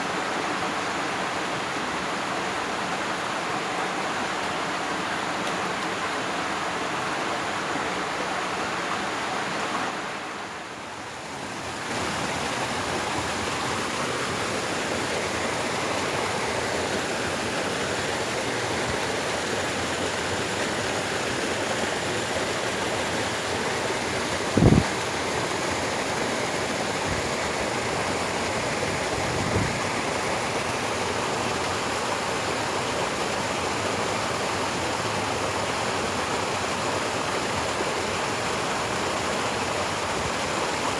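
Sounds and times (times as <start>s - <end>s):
water rushing along a ditch: 0.0s - 40.9s.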